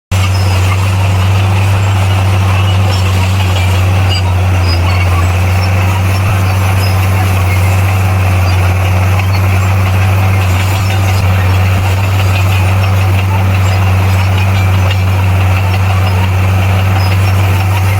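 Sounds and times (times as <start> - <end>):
heavy diesel engine running: 0.1 - 17.9.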